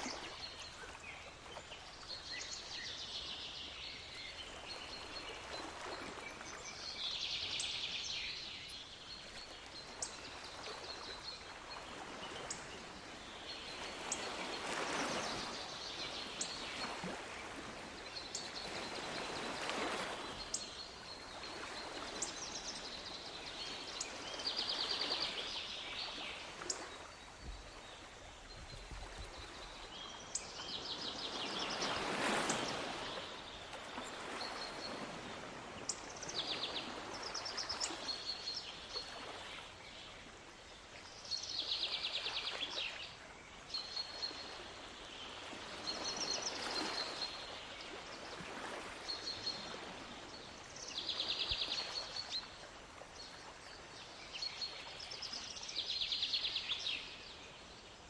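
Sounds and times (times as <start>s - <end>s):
small waves washing in: 0.0s - 58.0s
songbirds trilling and chirping: 0.0s - 58.0s.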